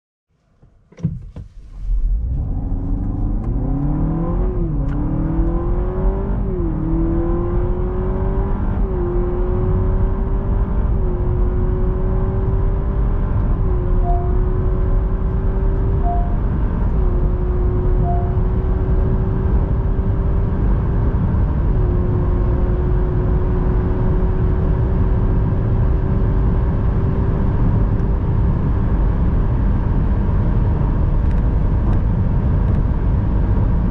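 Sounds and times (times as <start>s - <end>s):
road and tyre rumble: 0.8s - 33.9s
car engine accelerating: 1.0s - 33.9s.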